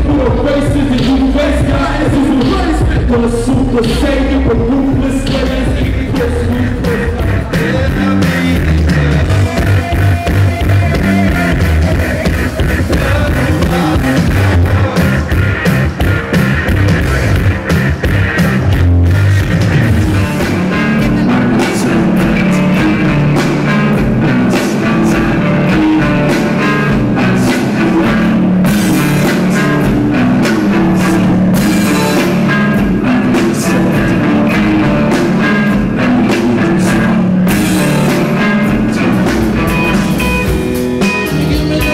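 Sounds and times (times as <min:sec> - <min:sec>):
rock music with drums and guitar: 0:00.0 - 0:41.9.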